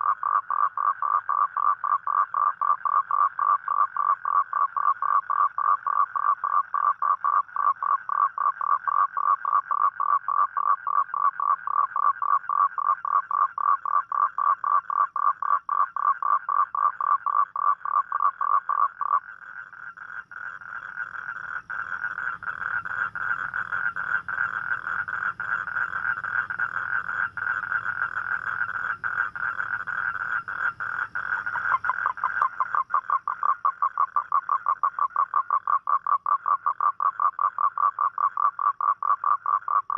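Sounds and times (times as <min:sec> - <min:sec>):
toad croaking: 0:00.0 - 0:39.9
toad trilling: 0:00.0 - 0:39.9.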